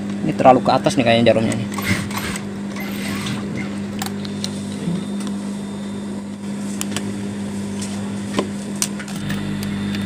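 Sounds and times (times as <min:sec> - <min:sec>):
low electric hum: 0:00.0 - 0:10.0.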